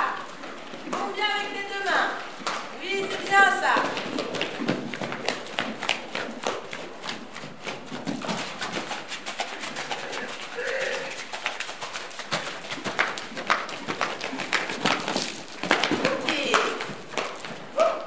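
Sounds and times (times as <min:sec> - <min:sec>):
horse hooves cantering on sand: 0:00.0 - 0:18.0.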